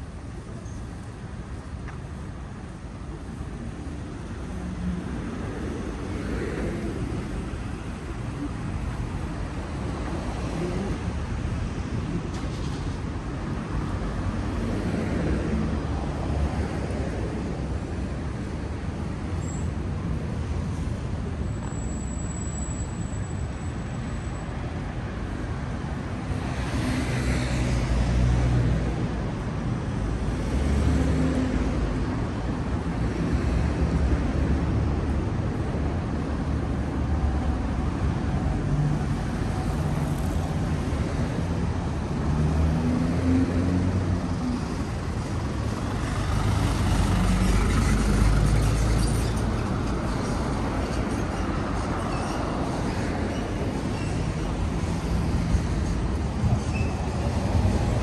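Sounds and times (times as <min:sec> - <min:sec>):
traffic engines rumbling: 0:00.0 - 0:58.0.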